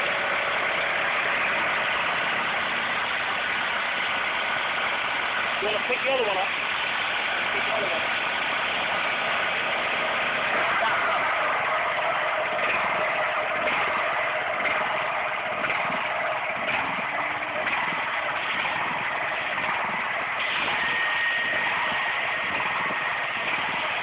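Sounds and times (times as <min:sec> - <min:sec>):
water jet spraying on hard surface: 0:00.0 - 0:15.2, 0:16.2 - 0:24.0
pressure washer engine running: 0:00.0 - 0:24.0.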